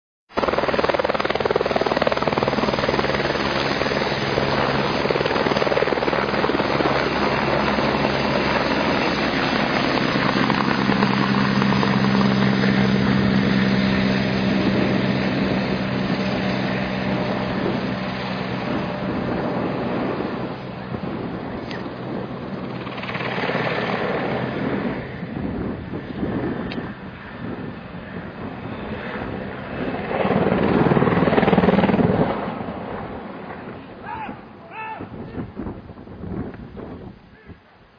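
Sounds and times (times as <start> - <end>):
helicopter rotor and engine: 0.3 - 37.1.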